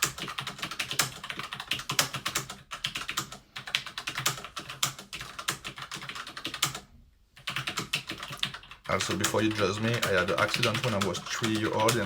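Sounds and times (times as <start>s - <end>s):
fast typing on a keyboard: 0.0s - 12.0s.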